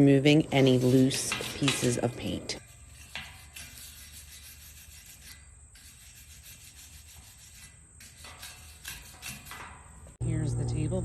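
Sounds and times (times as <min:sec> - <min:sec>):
wire brush scrubbing metal: 0:00.0 - 0:10.2.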